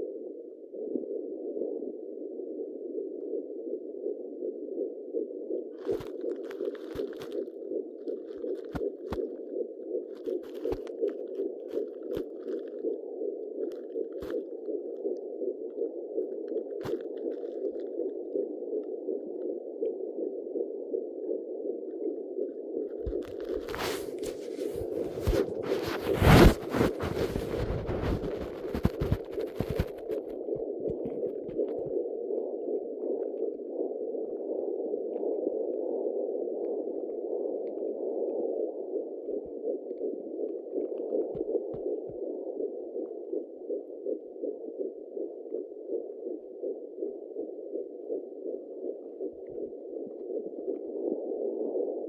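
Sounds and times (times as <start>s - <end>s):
fast fetal heartbeat pulse: 0.0s - 52.0s.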